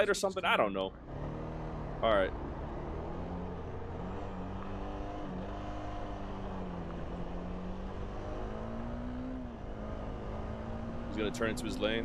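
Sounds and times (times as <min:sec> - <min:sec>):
motorcycle engine running: 0:00.9 - 0:12.0.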